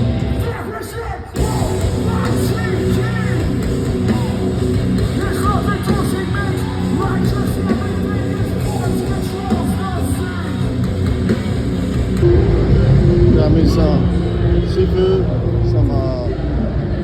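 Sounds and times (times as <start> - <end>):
loud rock music with singing: 0.0 - 17.0.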